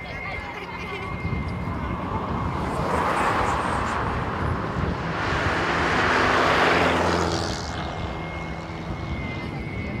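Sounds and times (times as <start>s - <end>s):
vehicle passing on highway: 1.1s - 10.0s.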